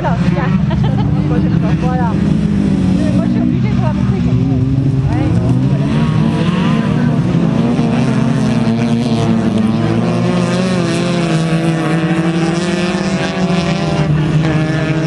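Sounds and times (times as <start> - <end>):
racing car engines at high revs: 0.0 - 15.0.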